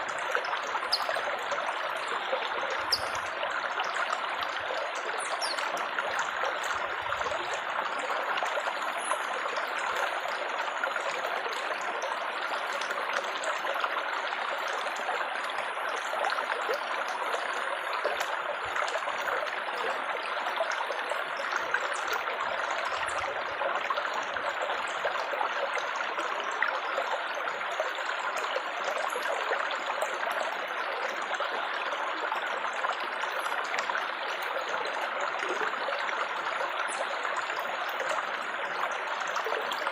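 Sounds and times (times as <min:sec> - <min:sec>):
babbling trickling water: 0:00.0 - 0:39.9.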